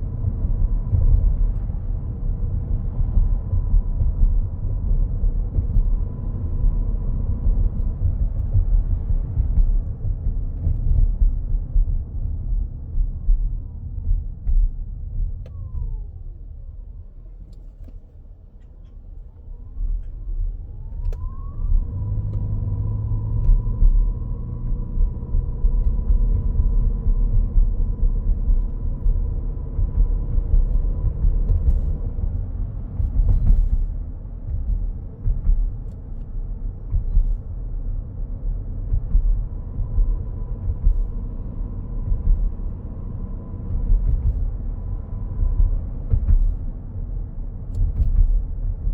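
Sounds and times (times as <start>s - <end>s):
road rumble in car cabin: 0.0s - 48.9s.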